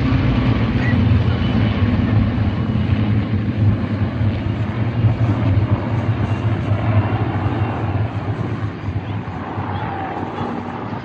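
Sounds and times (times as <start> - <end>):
piston aircraft engines droning: 0.0 - 11.0.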